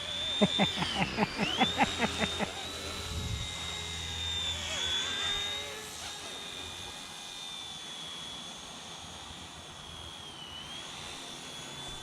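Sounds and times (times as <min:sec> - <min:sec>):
rc helicopter whine: 0:00.0 - 0:12.0.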